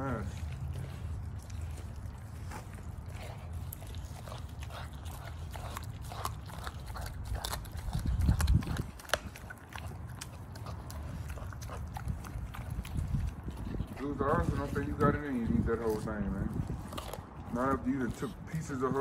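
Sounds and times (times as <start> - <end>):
dog crunching on bones: 0.0 - 19.0.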